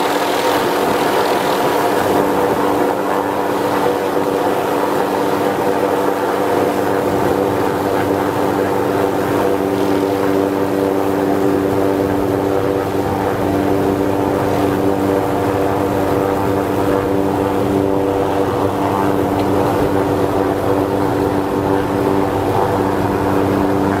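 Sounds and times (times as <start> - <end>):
steady motor-like drone: 0.0 - 24.0.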